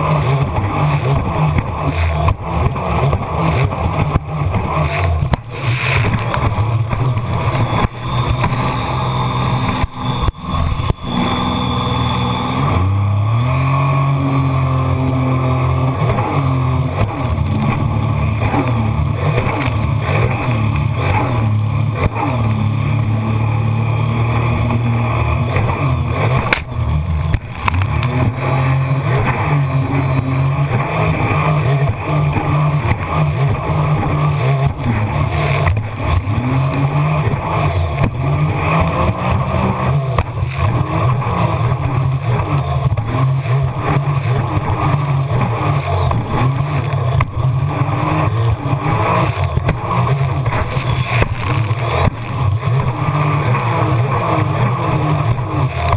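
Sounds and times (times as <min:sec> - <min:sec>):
jet ski engine running: 0:00.0 - 0:55.9
knocks and buffeting: 0:00.0 - 0:55.9.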